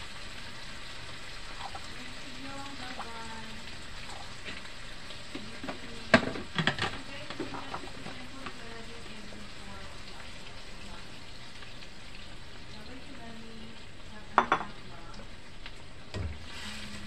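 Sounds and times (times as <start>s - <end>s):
stew simmering and sizzling: 0.0s - 17.0s.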